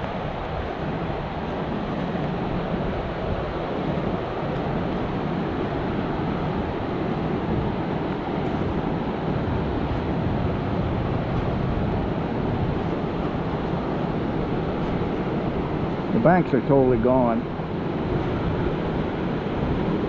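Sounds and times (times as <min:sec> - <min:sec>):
whitewater rushing over rocks: 0:00.0 - 0:20.0.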